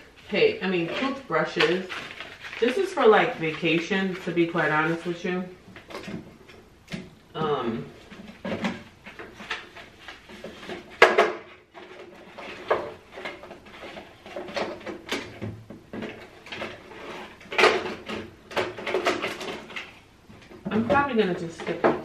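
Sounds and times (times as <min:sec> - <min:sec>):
plastic bins and toiletries handled: 0:00.0 - 0:22.0.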